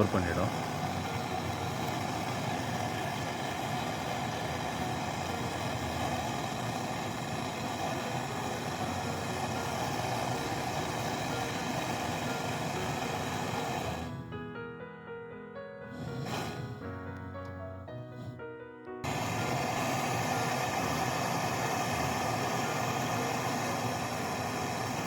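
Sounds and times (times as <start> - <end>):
mechanical running noise with hiss: 0.0 - 14.3, 15.9 - 17.3, 19.0 - 25.0.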